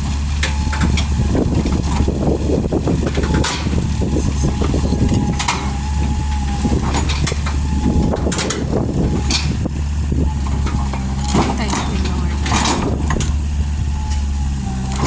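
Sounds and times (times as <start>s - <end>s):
knocks and clanks: 0.0s - 15.0s
vehicle engine running: 0.0s - 15.0s.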